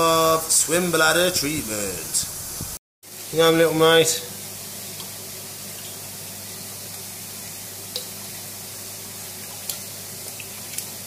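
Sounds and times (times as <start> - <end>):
aquarium water and pump hiss: 0.0 - 11.0.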